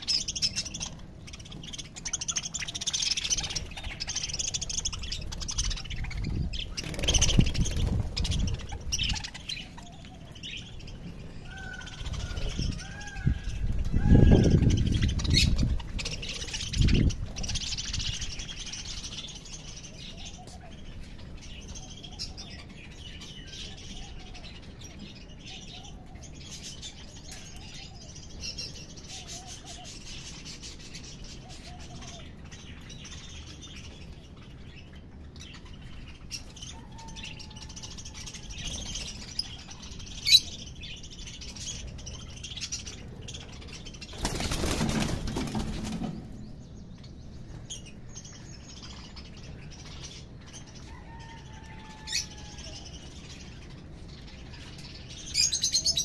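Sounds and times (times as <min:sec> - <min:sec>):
parrots chirping and twittering: 0:00.0 - 0:56.0.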